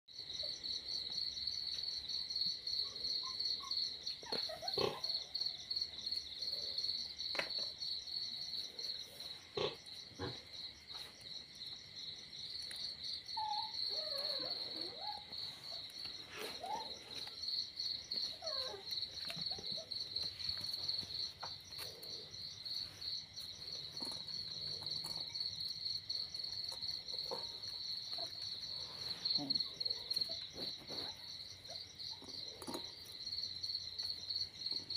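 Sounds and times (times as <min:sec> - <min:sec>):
night insects chirping: 0:00.2 - 0:34.9.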